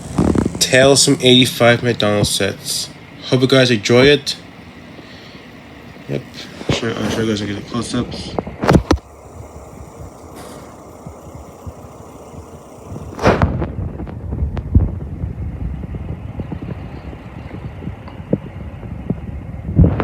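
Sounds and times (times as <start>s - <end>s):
handling knocks and rumbling: 0.0s - 20.0s.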